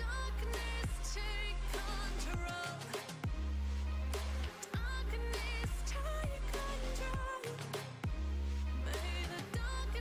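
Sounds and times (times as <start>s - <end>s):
pop music with deep bass: 0.0s - 10.0s.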